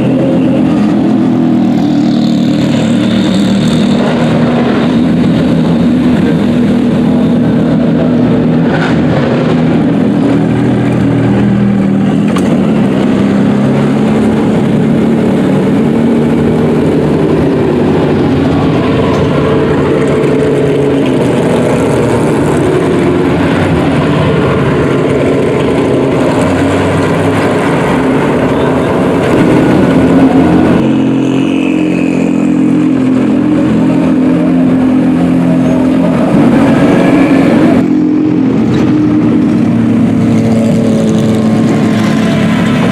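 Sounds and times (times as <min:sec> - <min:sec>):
race car engines idling: 0:00.0 - 0:42.9.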